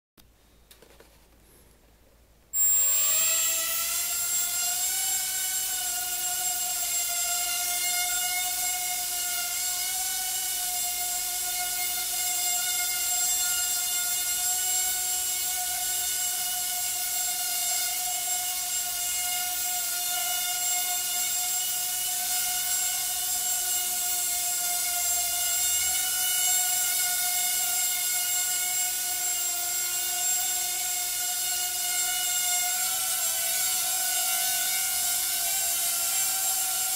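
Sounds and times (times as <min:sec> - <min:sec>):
quadcopter motors whining: 0:02.6 - 0:36.9.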